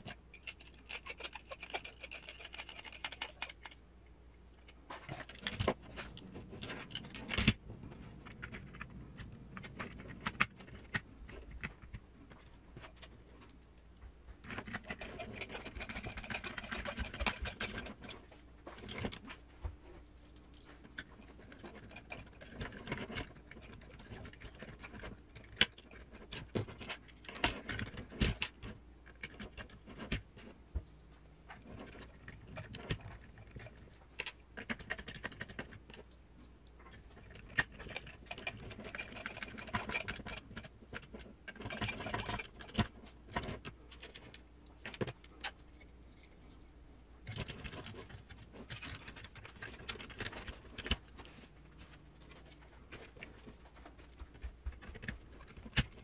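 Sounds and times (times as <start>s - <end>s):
metal parts clicking and rattling: 0.0s - 3.8s, 4.6s - 46.6s, 47.2s - 51.5s, 52.2s - 56.0s.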